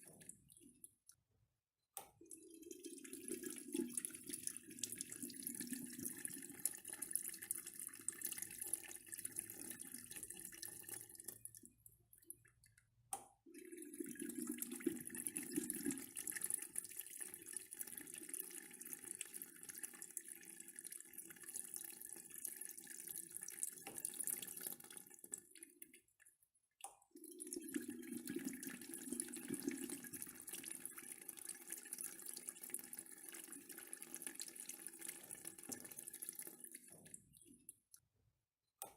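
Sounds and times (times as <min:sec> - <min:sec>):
water rushing through urinal: 0:02.2 - 0:11.7, 0:13.5 - 0:25.4, 0:27.1 - 0:37.3.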